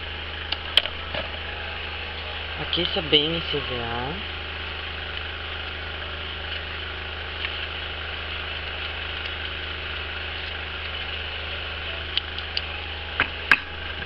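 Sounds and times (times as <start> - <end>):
electric fan motor whirring: 0.0 - 14.0
low hum: 0.0 - 14.0.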